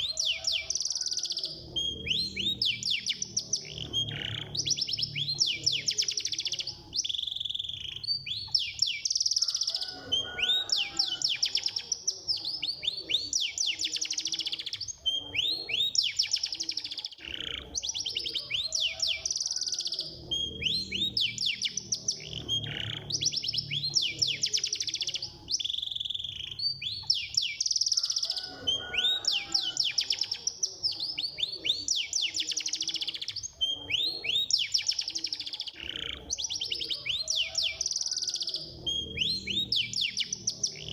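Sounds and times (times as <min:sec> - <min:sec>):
canary singing rapid trills: 0:00.0 - 0:40.9.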